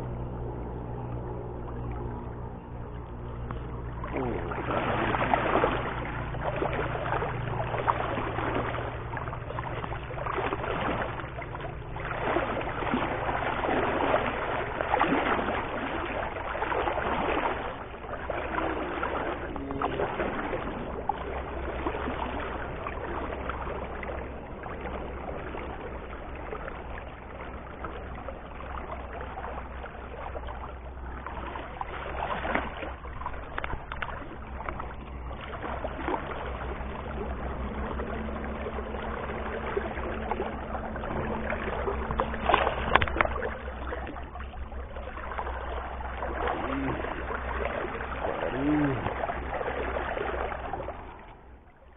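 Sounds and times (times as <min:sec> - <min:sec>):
steady low hum: 0:00.0 - 0:51.9
water lapping against boat hull: 0:00.0 - 0:51.9.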